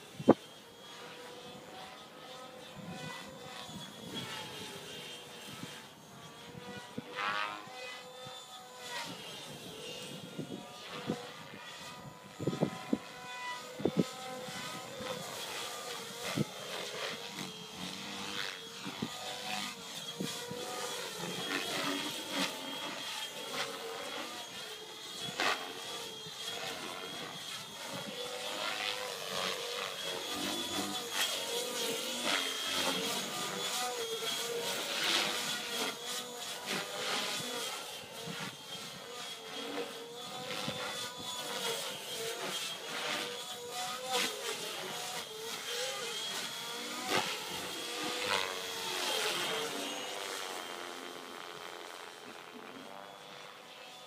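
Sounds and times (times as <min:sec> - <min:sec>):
helicopter rotor and motor whine: 0:00.0 - 0:54.0.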